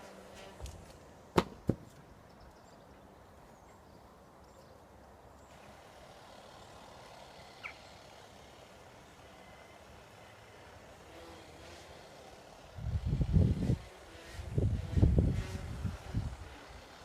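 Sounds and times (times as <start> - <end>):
faint outdoor background hum: 0.0 - 17.0.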